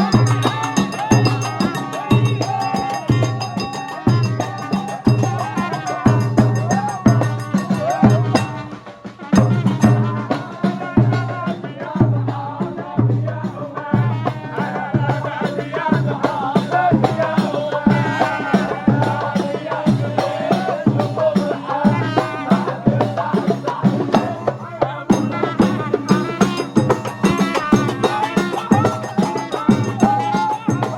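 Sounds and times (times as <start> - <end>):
drums and hand percussion: 0.0 - 30.9
voices singing folk melody: 0.0 - 30.9.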